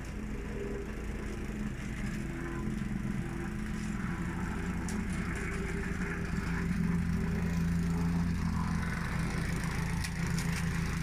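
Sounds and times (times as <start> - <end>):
plate compactor engine and vibration: 0.0 - 11.0.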